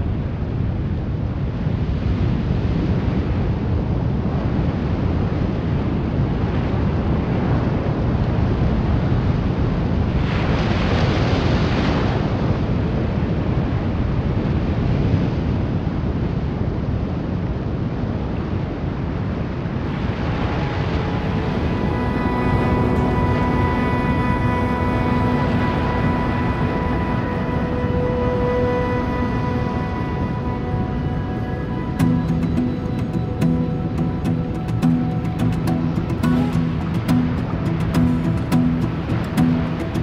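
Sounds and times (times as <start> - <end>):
wind rumbling on microphone: 0.0 - 40.0.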